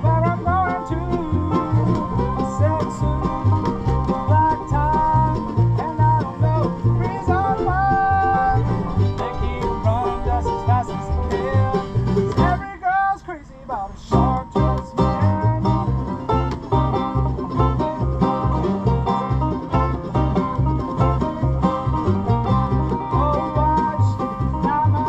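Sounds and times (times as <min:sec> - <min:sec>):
sliding melody line: 0:00.0 - 0:12.7, 0:14.1 - 0:25.0
banjo picking: 0:00.0 - 0:13.1, 0:14.0 - 0:25.0
bluegrass band playing: 0:00.0 - 0:25.0.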